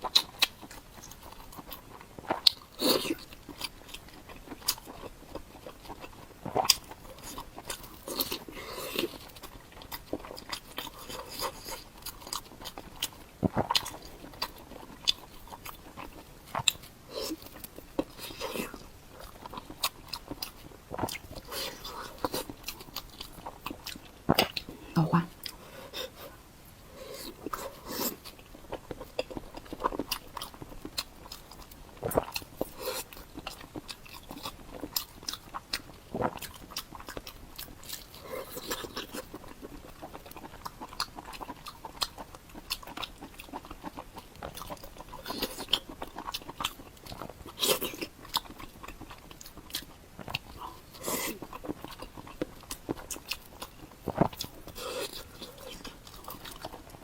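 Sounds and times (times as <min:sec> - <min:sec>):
person chewing and biting: 0:00.0 - 0:57.0.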